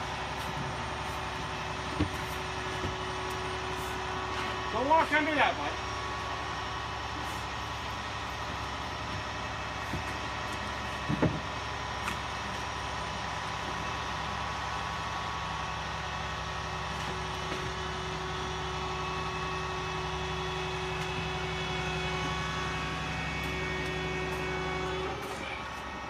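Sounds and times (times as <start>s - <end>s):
truck engine humming: 0.0s - 26.0s.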